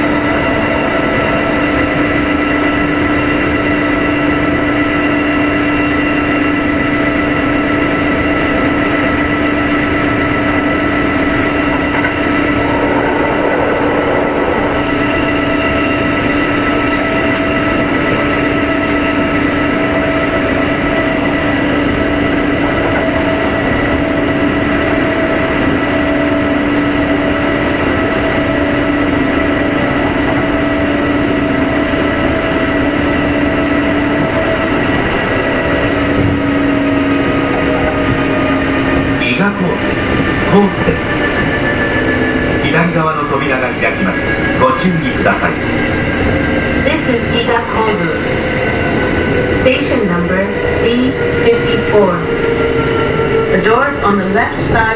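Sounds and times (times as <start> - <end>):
electric train running: 0.0 - 54.9.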